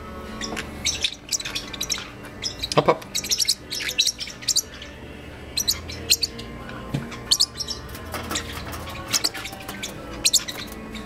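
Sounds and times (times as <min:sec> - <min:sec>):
parrotlets chirping: 0:00.0 - 0:11.0.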